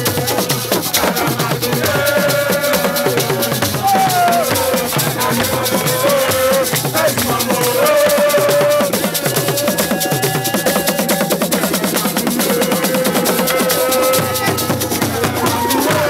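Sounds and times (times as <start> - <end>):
fast busy percussion: 0.0 - 16.0
shaker-like rattles: 0.0 - 16.0.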